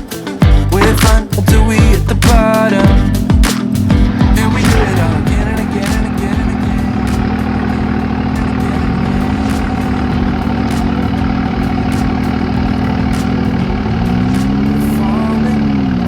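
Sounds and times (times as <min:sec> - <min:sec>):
truck engine idling and revving: 0:00.4 - 0:16.0.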